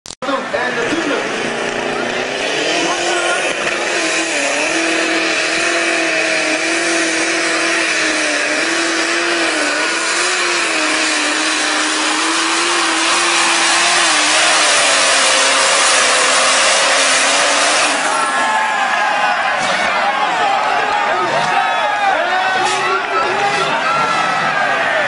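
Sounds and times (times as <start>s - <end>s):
tractor engine roaring: 0.0s - 25.0s.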